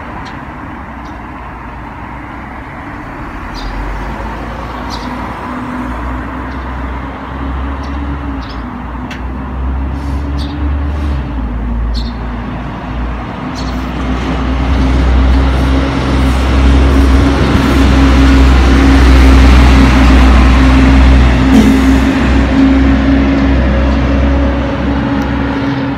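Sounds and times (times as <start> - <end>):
bus approaching: 0.0 - 25.9
traffic rumble: 0.0 - 25.9.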